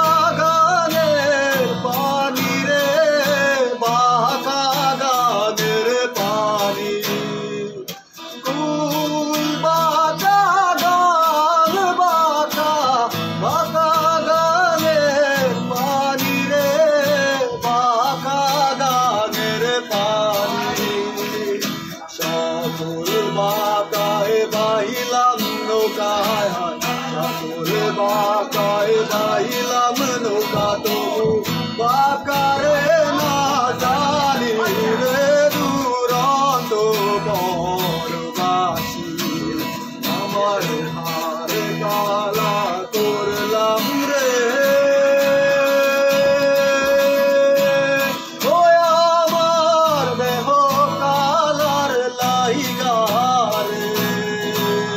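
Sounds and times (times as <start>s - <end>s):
man singing: 0.0s - 54.9s
strummed acoustic guitar: 0.0s - 54.9s.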